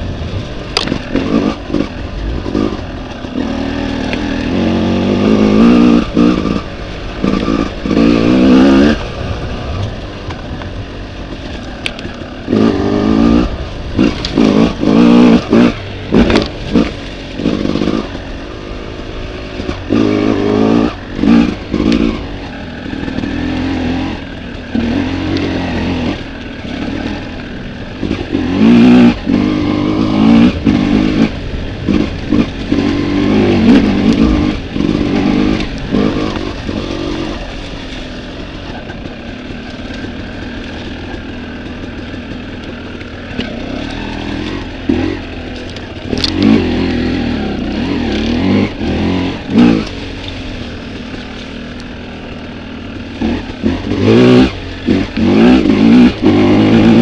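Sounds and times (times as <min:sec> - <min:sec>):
dirt bike engine revving: 0:00.0 - 0:57.0
knocks and rattles over rough ground: 0:00.0 - 0:57.0.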